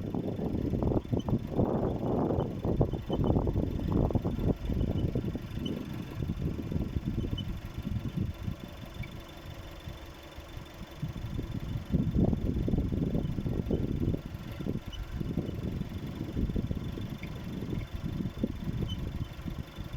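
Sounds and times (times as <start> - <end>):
car engine idling rumbling: 0.0 - 19.9.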